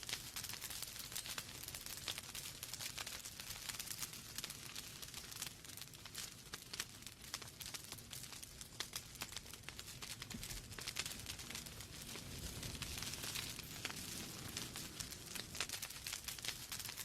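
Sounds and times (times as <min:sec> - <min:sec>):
faint low rumble of flames: 0:00.0 - 0:17.0
wood fire crackling: 0:00.0 - 0:17.0.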